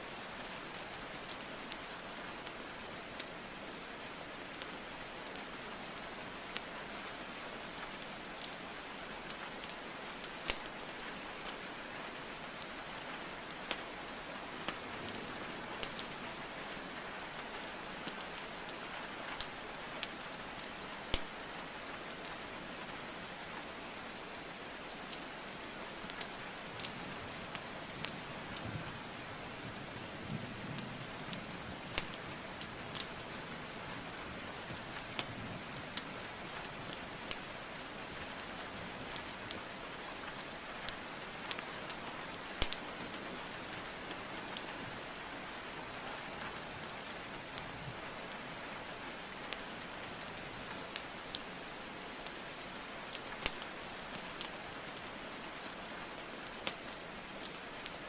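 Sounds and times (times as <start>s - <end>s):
rain hiss: 0.0s - 58.0s
wood fire crackling: 0.1s - 30.2s, 30.8s - 58.0s.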